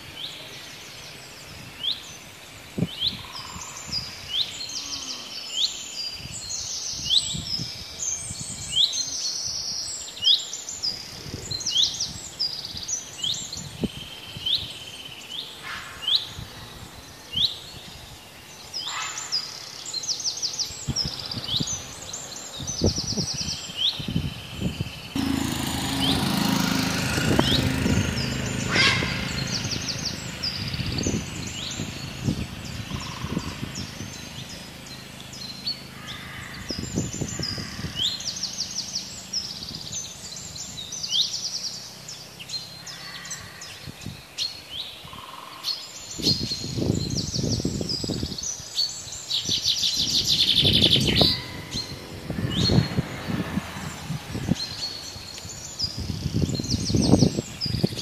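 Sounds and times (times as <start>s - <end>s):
outdoor background noise: 0.0s - 58.0s
songbirds chirping: 0.0s - 58.0s.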